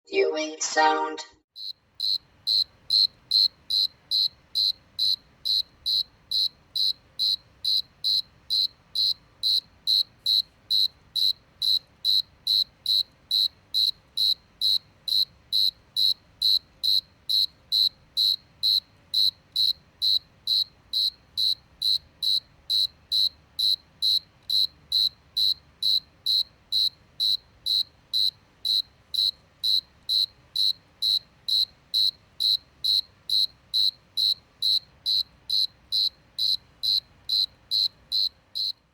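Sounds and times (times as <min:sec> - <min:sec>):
cricket chirping: 0:01.6 - 0:38.8.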